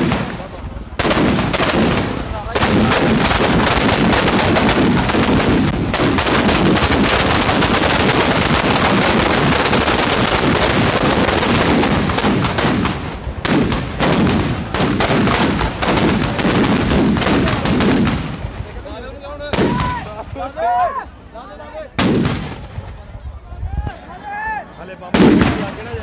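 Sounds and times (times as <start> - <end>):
firecrackers banging: 0.0 - 20.6, 21.9 - 23.3, 25.0 - 26.0.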